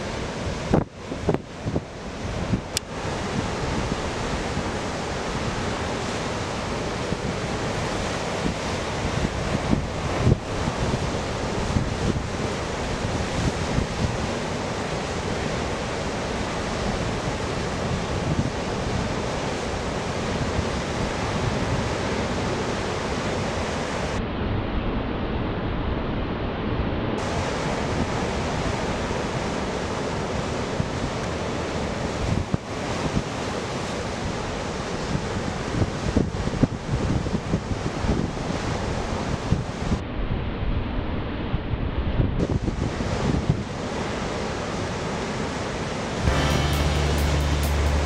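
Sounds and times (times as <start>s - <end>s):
wind noise on microphone: 0.0s - 15.7s, 16.4s - 29.8s, 30.6s - 44.4s.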